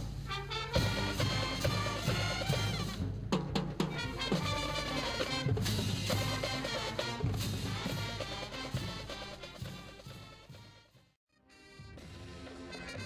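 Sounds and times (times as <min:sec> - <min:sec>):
drumline beat: 0:00.0 - 0:11.0
marching band brass: 0:00.0 - 0:13.0.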